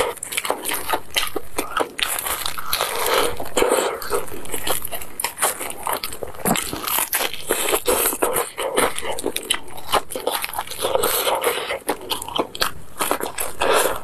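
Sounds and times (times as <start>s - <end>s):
crunching fried chicken: 0.0s - 14.0s.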